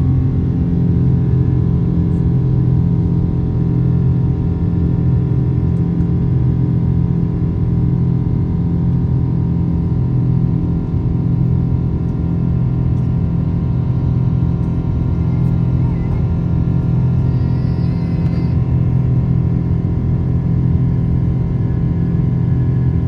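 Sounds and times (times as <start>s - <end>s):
jet engines droning in cabin: 0.0s - 23.0s.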